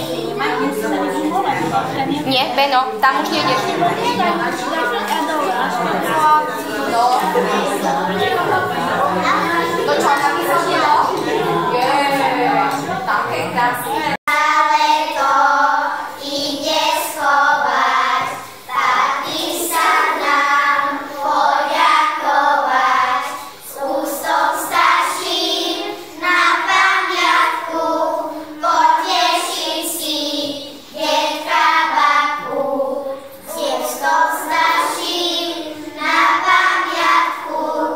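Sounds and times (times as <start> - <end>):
children singing together: 0.0 - 2.3, 2.9 - 13.0, 13.7 - 37.9.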